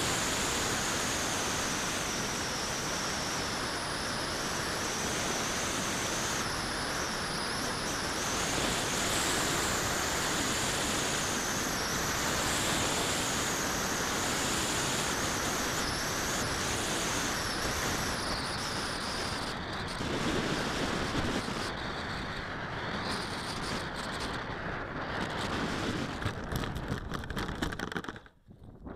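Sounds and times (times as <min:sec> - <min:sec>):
wind noise over camera: 0:00.0 - 0:28.9.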